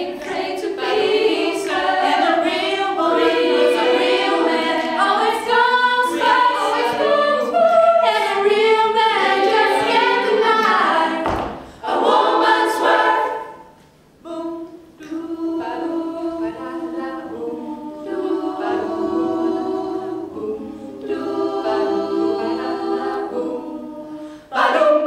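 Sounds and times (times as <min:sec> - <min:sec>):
women's choir singing: 0:00.0 - 0:25.0.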